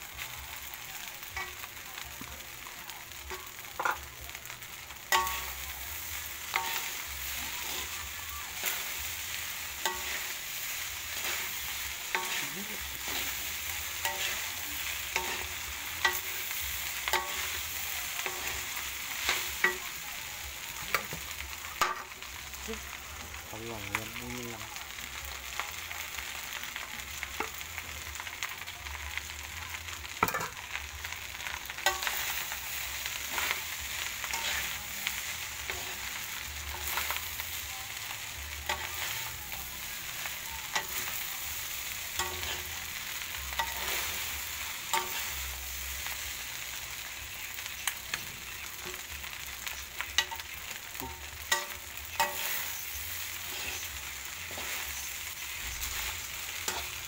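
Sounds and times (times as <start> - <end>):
rice sizzling in wok: 0.0 - 57.0
spatula scraping wok: 0.1 - 23.3, 30.2 - 57.0.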